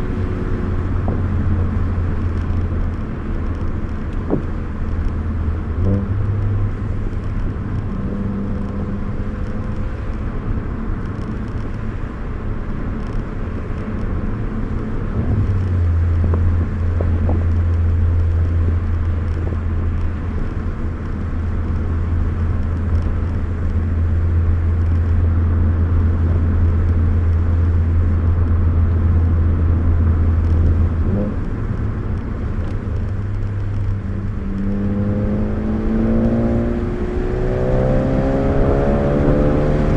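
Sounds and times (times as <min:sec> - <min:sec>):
car engine drone: 0:00.0 - 0:39.9
road noise inside car: 0:00.0 - 0:39.9.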